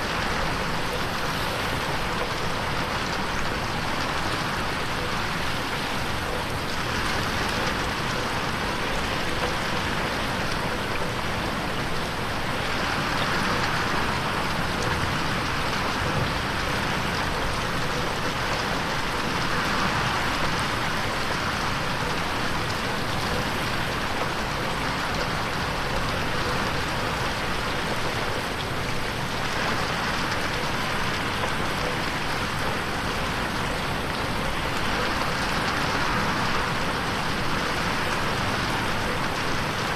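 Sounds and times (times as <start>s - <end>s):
rain pattering on window: 0.0s - 39.9s.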